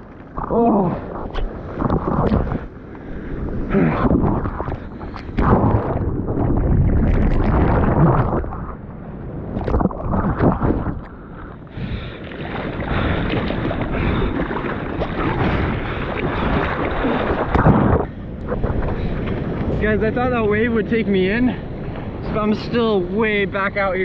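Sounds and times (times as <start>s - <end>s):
wave breaking: 0.0s - 24.0s.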